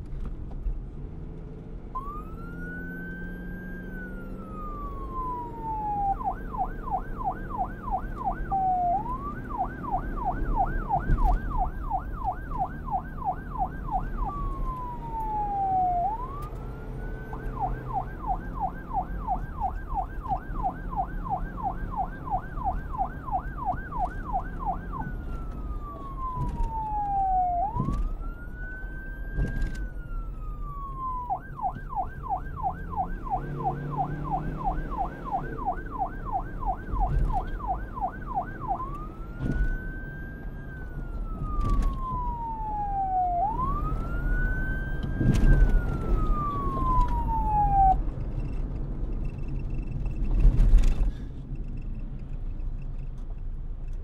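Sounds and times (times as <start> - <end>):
police siren yelp and wail: 1.9 - 49.0.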